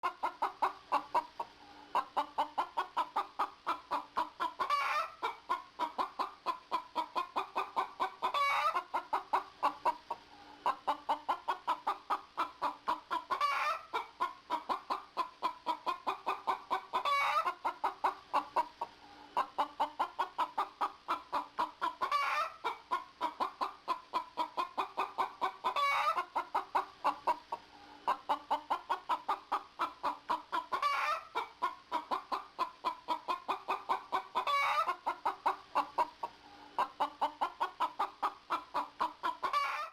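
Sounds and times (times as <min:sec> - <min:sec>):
chicken clucking and cackling: 0:00.0 - 0:39.9.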